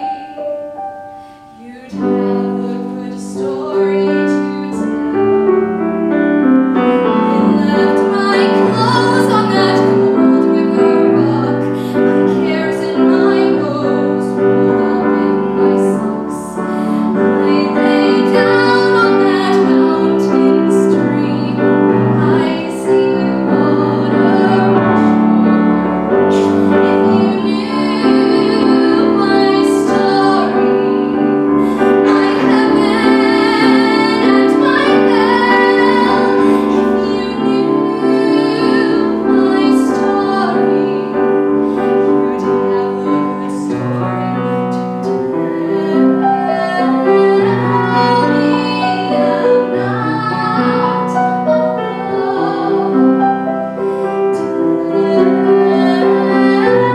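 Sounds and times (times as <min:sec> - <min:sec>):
woman singing: 0:00.0 - 0:00.6, 0:01.5 - 0:05.2, 0:06.8 - 0:56.9
grand piano accompaniment: 0:00.0 - 0:56.9.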